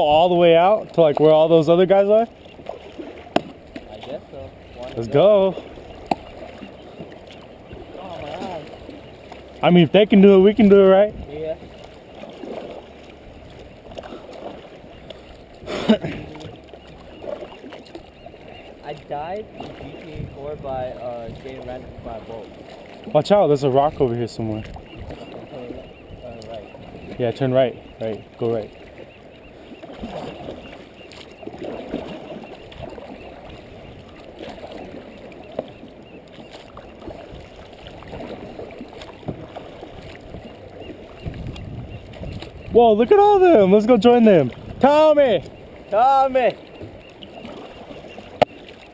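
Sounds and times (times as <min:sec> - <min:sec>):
kayak paddles splashing: 0:00.0 - 0:48.9.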